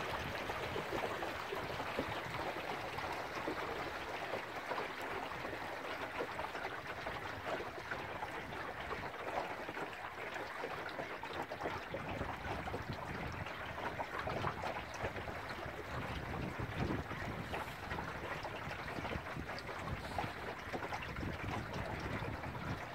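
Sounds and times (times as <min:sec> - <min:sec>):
wind rumble on microphone: 0:00.0 - 0:09.9, 0:10.8 - 0:22.9
water splashing along boat bow: 0:00.0 - 0:22.9.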